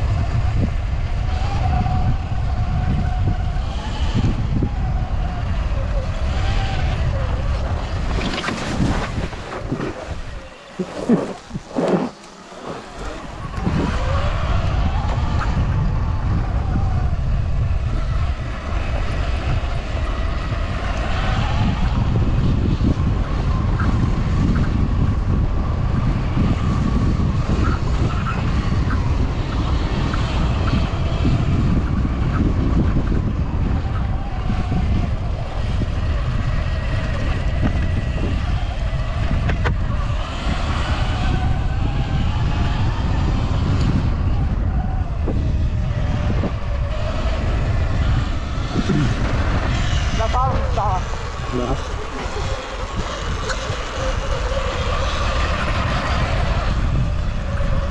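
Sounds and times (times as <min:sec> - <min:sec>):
electric motor whine: 0:00.0 - 0:57.9
wind buffeting microphone: 0:00.0 - 0:57.9.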